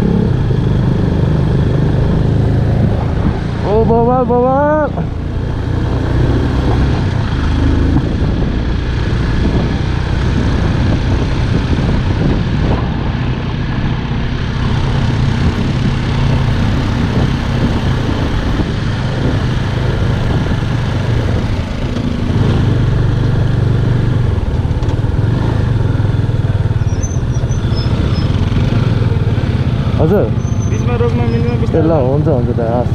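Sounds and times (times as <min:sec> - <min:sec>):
motorcycle engine running: 0:00.0 - 0:32.9
wind and road rush: 0:00.0 - 0:32.9.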